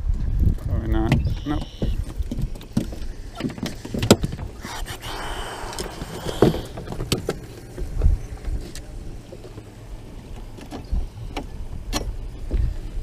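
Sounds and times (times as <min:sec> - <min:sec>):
low rumbles: 0:00.0 - 0:13.0.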